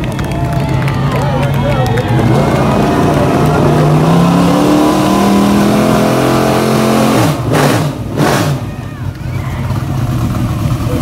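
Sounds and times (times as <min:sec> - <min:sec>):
race car engine passing: 0:00.8 - 0:11.0.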